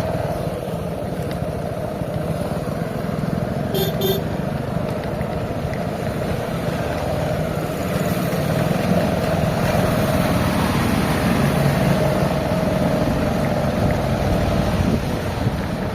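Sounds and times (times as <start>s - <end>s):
road noise: 0.0s - 15.9s
vehicle engine running: 0.0s - 15.9s.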